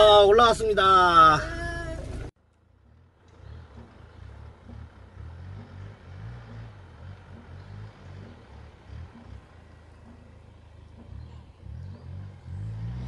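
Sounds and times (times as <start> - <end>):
faint low engine rumble: 0.0 - 13.0.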